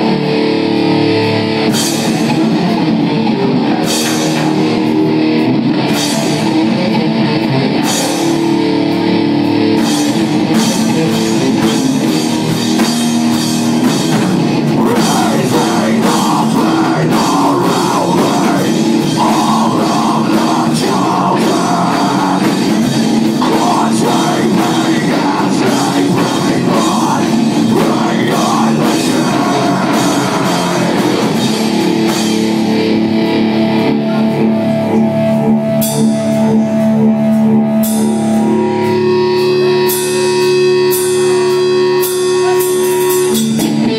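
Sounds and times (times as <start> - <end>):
drum kit: 0.0 - 43.9
electric guitar: 0.0 - 43.9.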